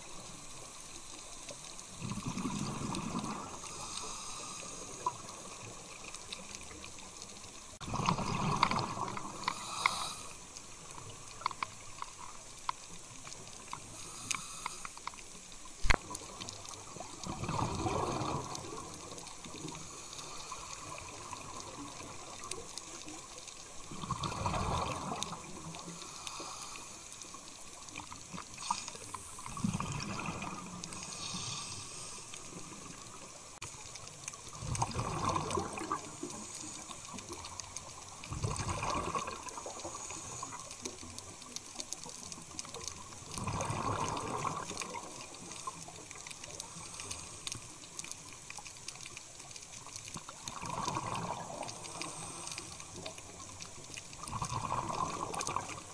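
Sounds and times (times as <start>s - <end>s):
faint underwater crackling: 0.0s - 55.9s
underwater bubbles gurgling: 0.0s - 55.9s.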